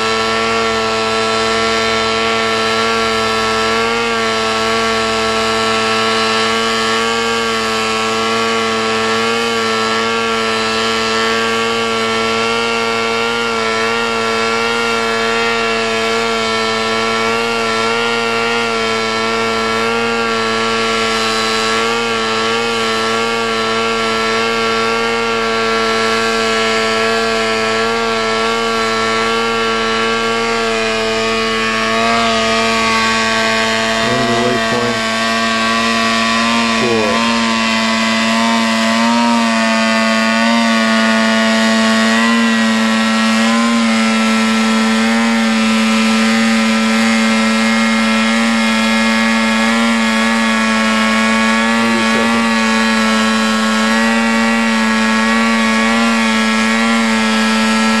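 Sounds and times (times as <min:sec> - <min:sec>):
ducted fan running: 0:00.0 - 0:58.0.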